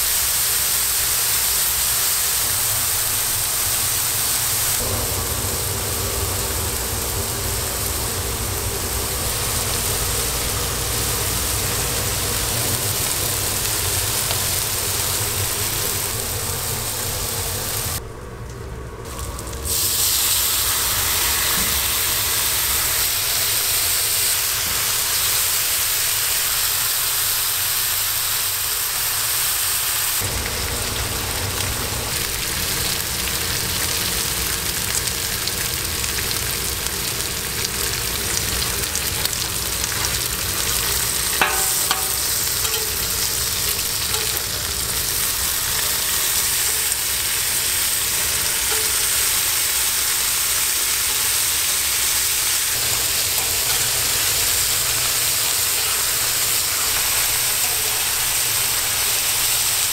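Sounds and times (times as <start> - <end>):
burger patties sizzling on griddle: 0.0 - 18.0, 19.0 - 59.9.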